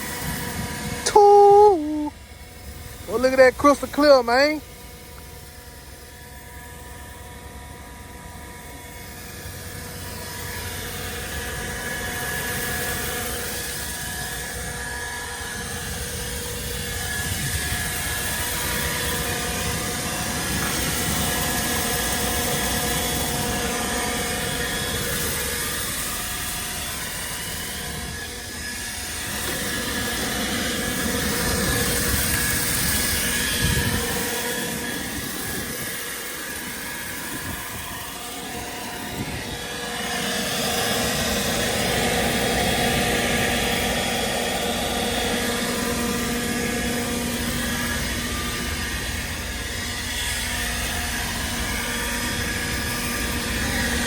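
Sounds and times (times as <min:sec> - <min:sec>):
machine drone with hum: 0:00.0 - 0:54.0.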